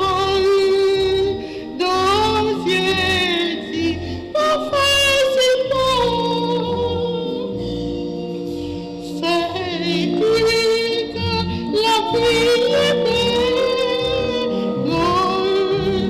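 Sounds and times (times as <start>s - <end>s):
woman singing gospel: 0.0s - 7.8s, 9.0s - 16.0s
low instrumental accompaniment: 0.0s - 16.0s.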